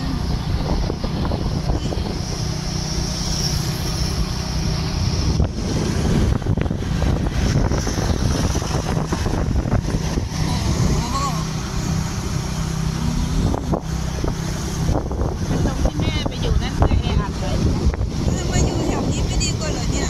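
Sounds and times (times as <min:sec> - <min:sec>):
road and engine rumble: 0:00.0 - 0:20.0
wind buffeting microphone: 0:00.0 - 0:20.0.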